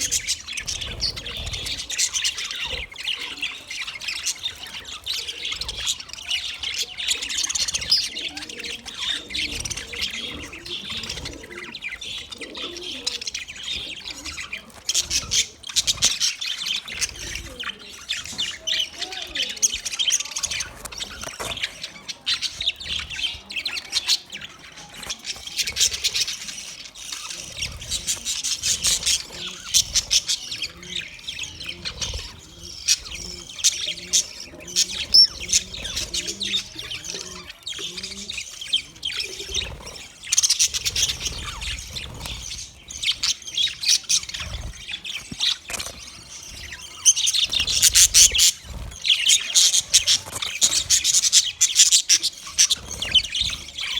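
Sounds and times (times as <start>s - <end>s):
budgerigars chirping and chattering: 0.0s - 53.9s.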